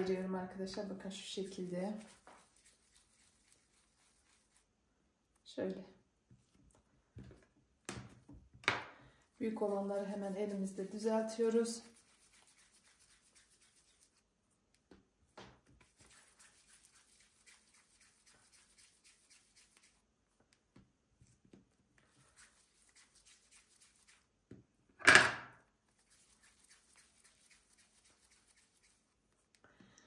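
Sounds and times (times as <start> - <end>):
hands rolling dough: 0.0 - 5.4, 9.2 - 24.9, 25.8 - 29.9.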